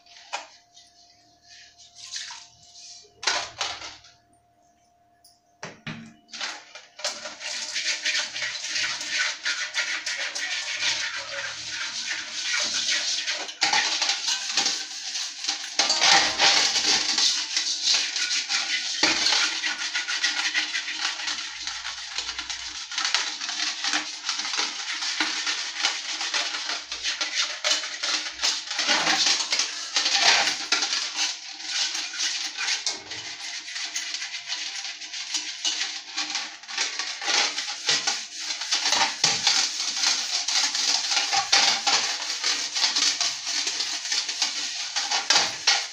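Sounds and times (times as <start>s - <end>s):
scouring inside a metal pot: 0.0s - 4.1s, 6.2s - 45.9s.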